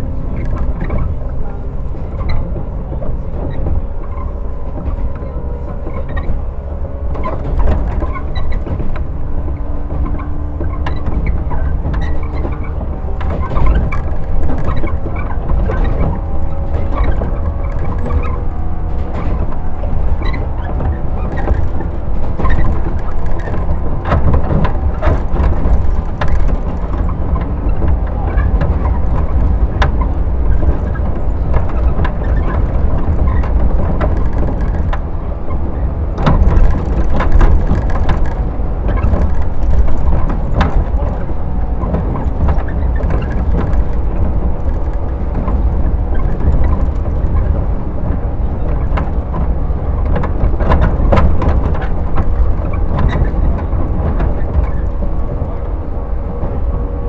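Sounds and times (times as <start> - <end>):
clicks and knocks from track: 0.0 - 57.0
train motors humming: 0.0 - 57.0
wheels rumbling on rail: 0.0 - 57.0.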